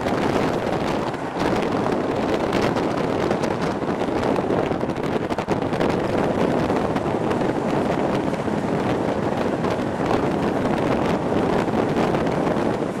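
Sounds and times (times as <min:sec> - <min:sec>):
train running on rails: 0:00.0 - 0:13.0
wind rushing over microphone: 0:00.0 - 0:13.0.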